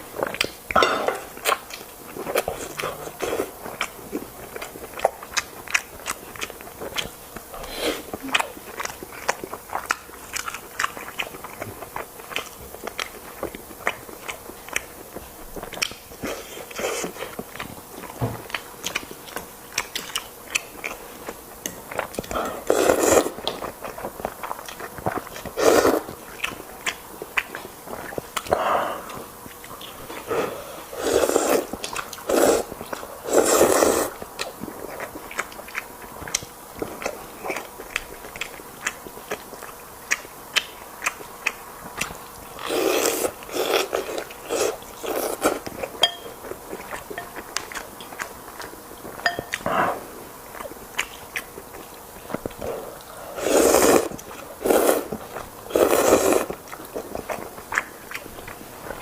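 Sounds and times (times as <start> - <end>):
wet chewing and biting: 1.4 - 30.3, 31.3 - 59.0.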